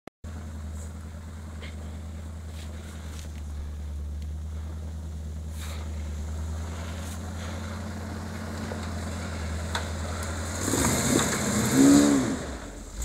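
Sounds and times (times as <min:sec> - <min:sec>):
engine running at low revs: 0:00.2 - 0:13.0.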